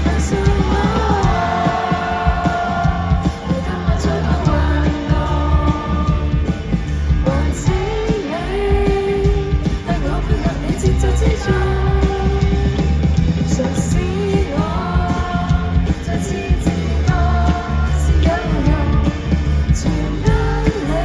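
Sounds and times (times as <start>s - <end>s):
band playing bass drums guitar: 0.0s - 21.0s.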